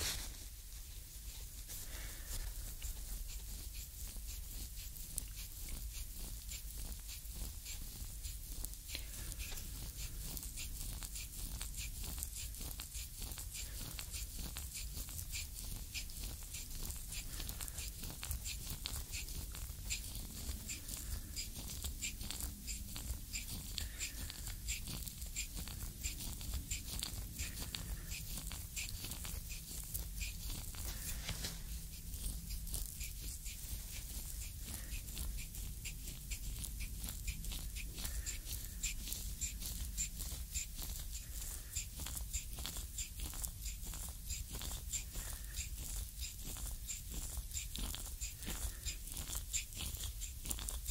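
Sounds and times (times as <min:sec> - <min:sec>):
wooden stick rubbing on skin: 0:00.0 - 0:50.9.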